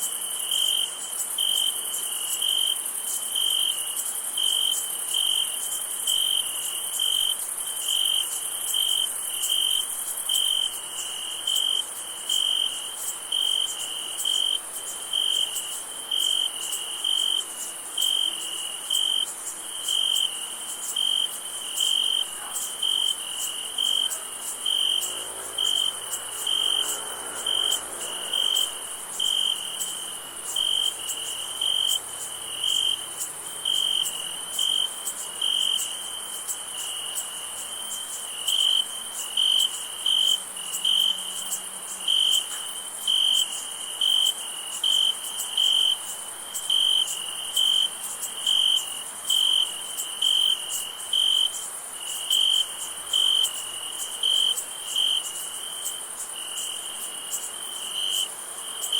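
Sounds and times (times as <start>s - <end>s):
cricket chirping: 0.0s - 58.9s
high-pitched insect trill: 0.0s - 58.9s.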